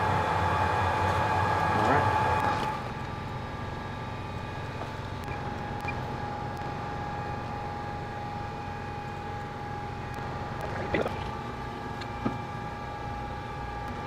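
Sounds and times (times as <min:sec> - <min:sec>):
machine hum: 0:00.0 - 0:14.0
thin steady whine: 0:00.0 - 0:14.0.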